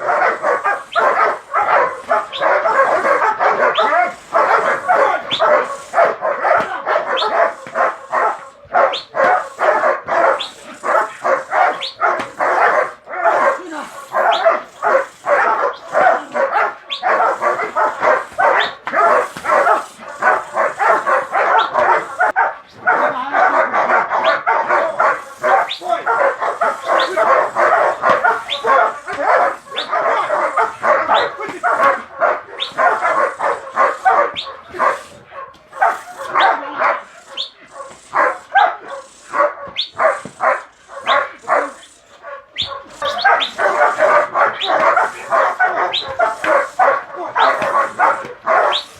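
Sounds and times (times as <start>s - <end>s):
dogs barking: 0.0s - 48.9s.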